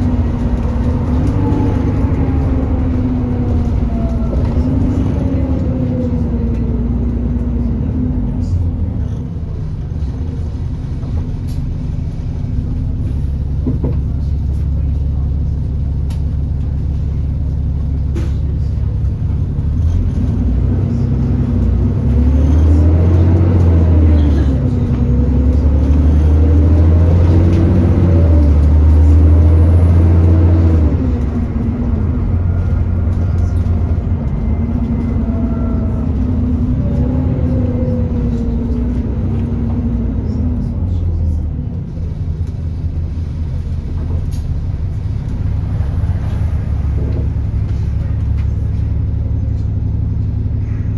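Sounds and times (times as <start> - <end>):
bus engine pulling under load: 0.0 - 50.9.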